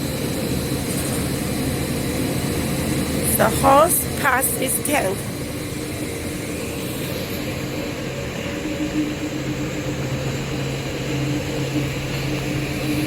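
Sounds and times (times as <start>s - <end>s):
production line machinery humming: 0.0s - 13.0s.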